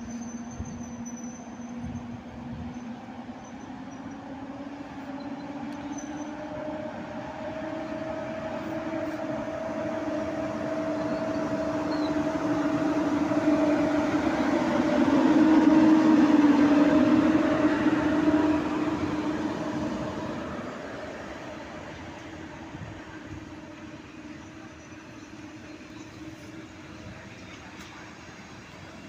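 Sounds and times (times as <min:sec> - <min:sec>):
train rolling noise: 0:00.0 - 0:29.0
train two-note hum: 0:00.0 - 0:29.0.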